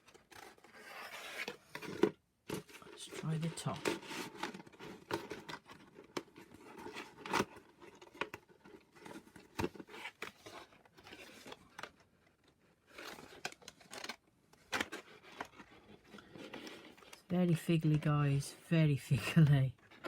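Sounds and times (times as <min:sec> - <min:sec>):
paper crinkling and rustling: 0:00.0 - 0:18.4.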